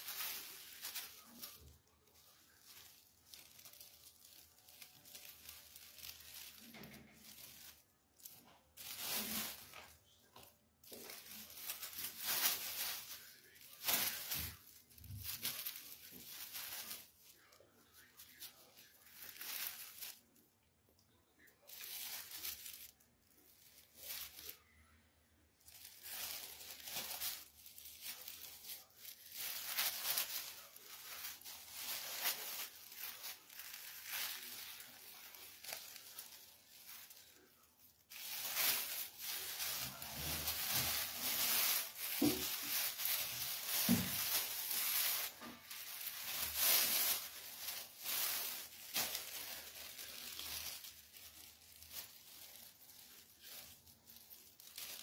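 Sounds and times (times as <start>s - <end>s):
plastic bags crinkling: 0.0s - 20.5s, 21.5s - 55.0s.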